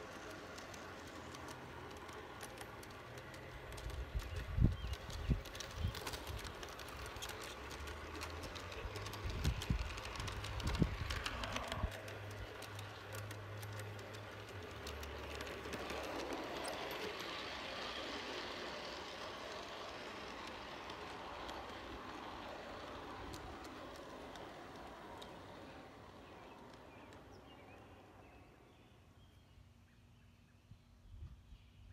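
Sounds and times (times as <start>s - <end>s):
model train wheels clicking: 0.0s - 28.9s.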